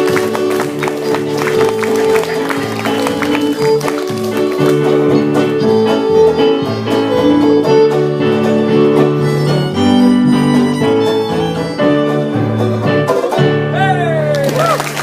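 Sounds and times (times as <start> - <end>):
fiddle playing a tune: 0.0 - 14.0
backing band: 0.0 - 15.0.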